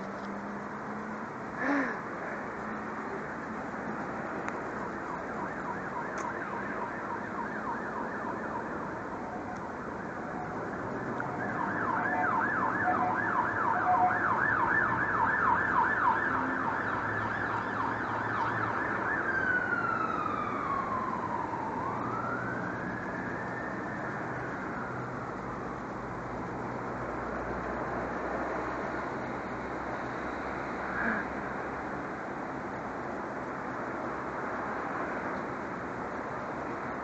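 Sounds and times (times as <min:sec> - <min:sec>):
low traffic hum: 0:00.0 - 0:37.0
emergency vehicle siren: 0:02.4 - 0:37.0.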